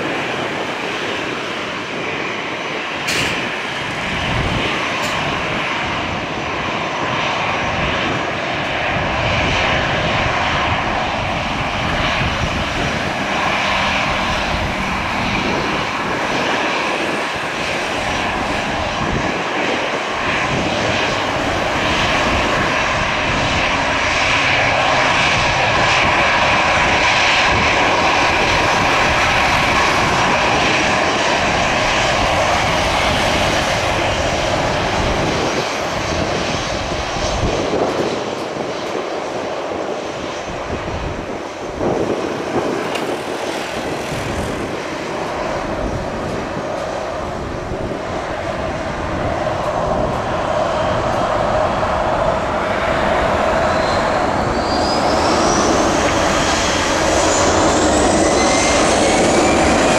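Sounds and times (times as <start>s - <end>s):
jet engines whine and rumble: 0.0s - 59.9s.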